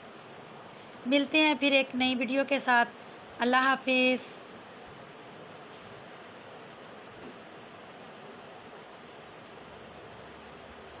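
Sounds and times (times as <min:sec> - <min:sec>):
background hiss: 0:00.0 - 0:11.0
cricket chirping: 0:00.0 - 0:11.0.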